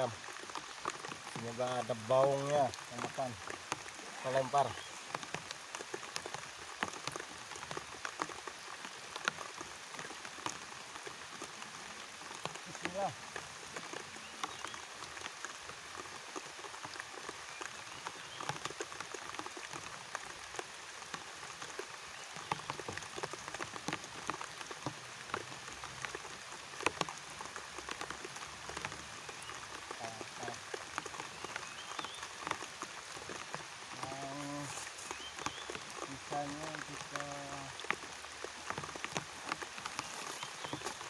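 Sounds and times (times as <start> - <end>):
raindrops ticking: 0.0 - 41.0
steady rain hiss: 0.0 - 41.0.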